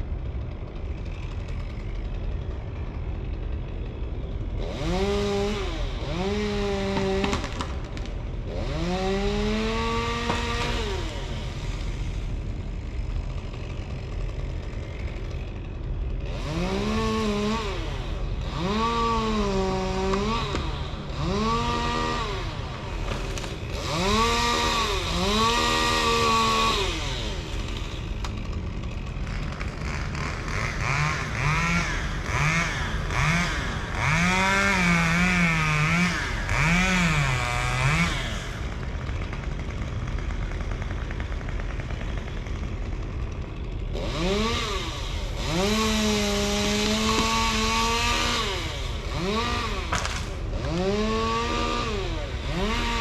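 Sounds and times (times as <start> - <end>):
chainsaw revving: 0.0 - 53.0.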